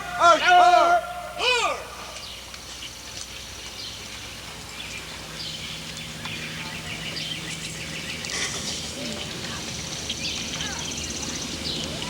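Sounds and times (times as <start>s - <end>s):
birds chirping faintly: 0.0s - 12.0s
low steady hum: 0.0s - 12.0s.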